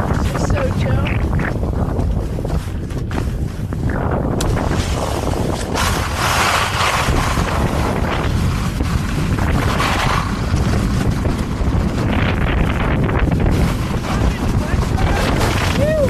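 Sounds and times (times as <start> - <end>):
wind buffeting microphone: 0.0 - 16.0
skis sliding on snow: 2.0 - 16.0.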